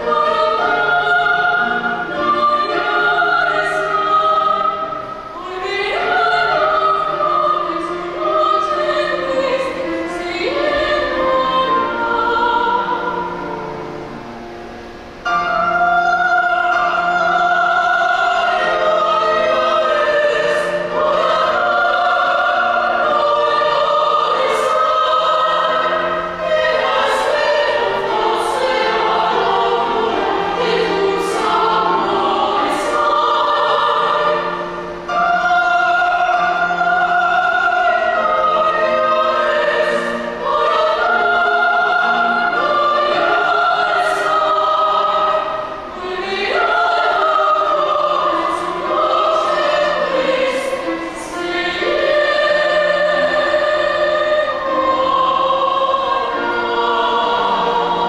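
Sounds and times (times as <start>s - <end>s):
operatic voices singing: 0.0s - 13.9s, 15.3s - 58.0s
grand piano accompaniment: 0.0s - 58.0s.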